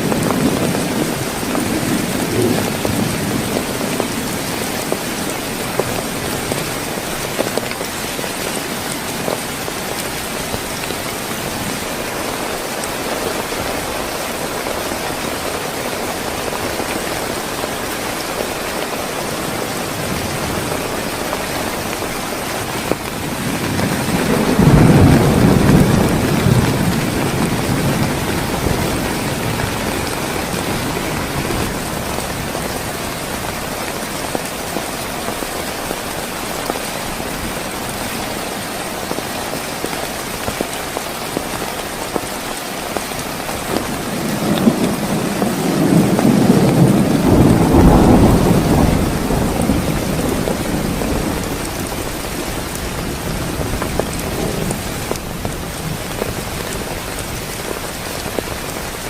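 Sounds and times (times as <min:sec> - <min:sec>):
thunder rumbling: 0:00.0 - 0:40.7, 0:43.4 - 0:59.0
heavy rain falling: 0:00.0 - 0:59.0.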